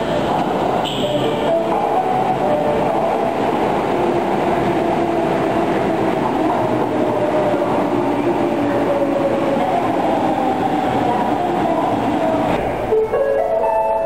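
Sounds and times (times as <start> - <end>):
subway train wheels rumbling: 0.0 - 14.0
train whining: 0.0 - 14.0.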